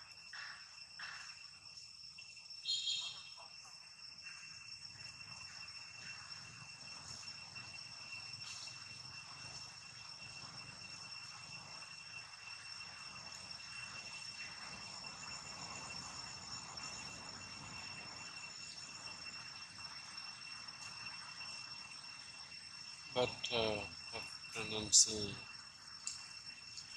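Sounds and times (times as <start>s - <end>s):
insects trilling: 0.0s - 26.9s.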